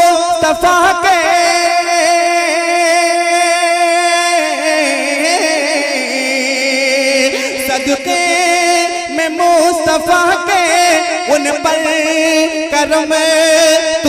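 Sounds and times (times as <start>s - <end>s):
man singing through microphone: 0.0s - 14.0s.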